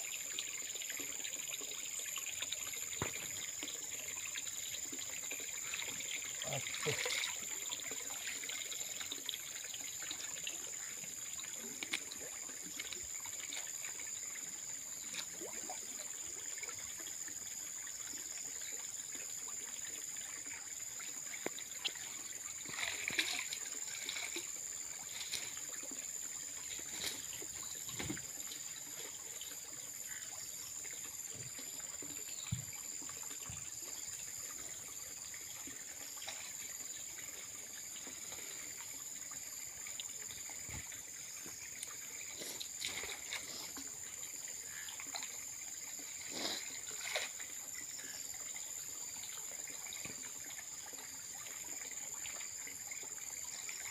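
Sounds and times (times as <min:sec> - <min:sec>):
pond water sloshing and splashing: 0:00.0 - 0:53.9.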